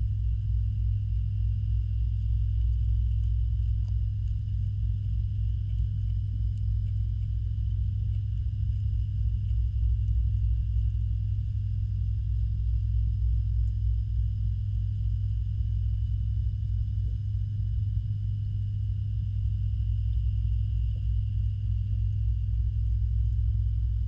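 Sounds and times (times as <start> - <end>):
low rumbling hum underwater: 0.0 - 24.0.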